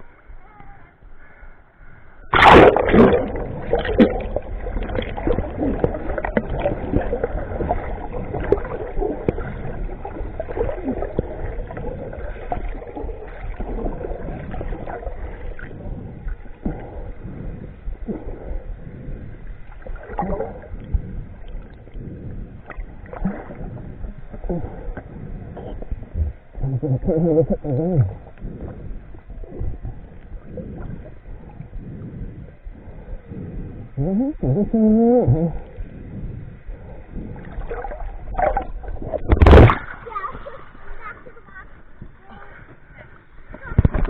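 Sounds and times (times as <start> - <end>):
boat motor rumbling: 0.0 - 44.0
water noise: 0.0 - 44.0.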